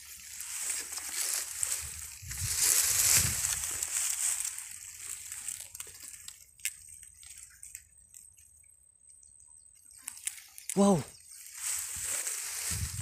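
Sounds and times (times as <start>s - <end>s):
grass rustling and crackling: 0.0s - 8.8s, 9.8s - 13.0s.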